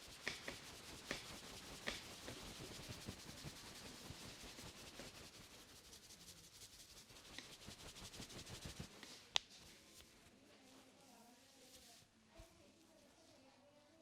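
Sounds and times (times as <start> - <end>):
hands rubbing hair and scalp: 0.0 - 13.0.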